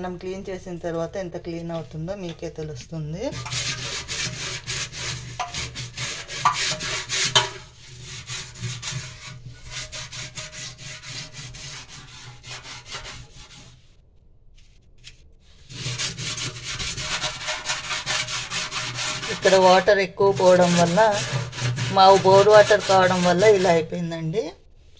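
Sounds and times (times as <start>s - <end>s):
scrubbing steel sink: 0.8s - 14.0s, 15.4s - 24.1s.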